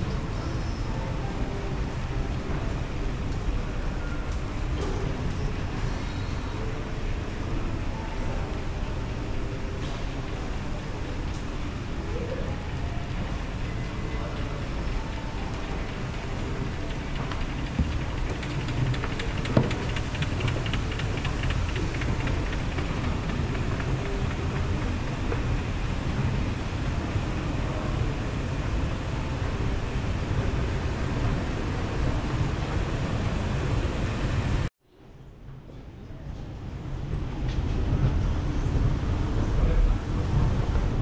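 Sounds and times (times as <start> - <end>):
escalator rumble and hiss: 0.0 - 34.7, 35.5 - 41.0.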